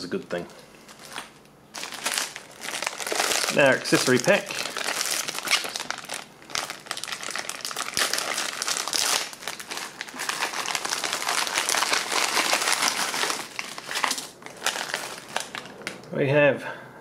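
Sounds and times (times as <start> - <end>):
plastic bag crinkling: 0.2 - 16.1.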